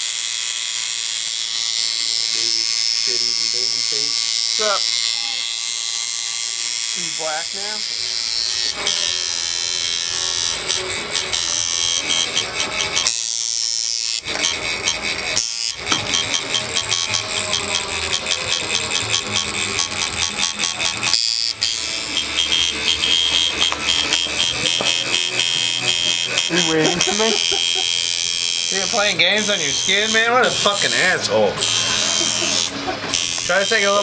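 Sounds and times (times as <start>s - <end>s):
tattoo machine buzzing: 0.0s - 34.0s.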